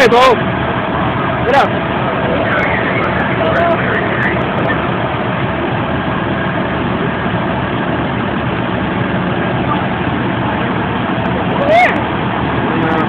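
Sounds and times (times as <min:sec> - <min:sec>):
heavy vehicle engine idling: 0:00.0 - 0:13.0.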